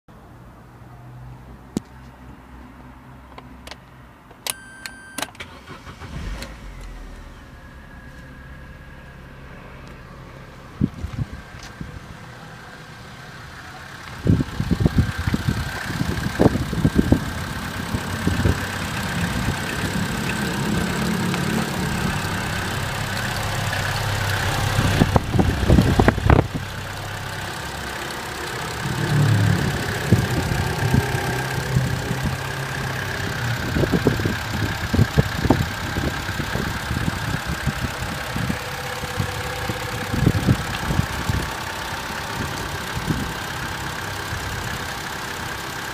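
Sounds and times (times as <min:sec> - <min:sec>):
car engine starting and idling: 0:03.2 - 0:45.9
engine revving: 0:05.4 - 0:12.4, 0:13.9 - 0:45.0.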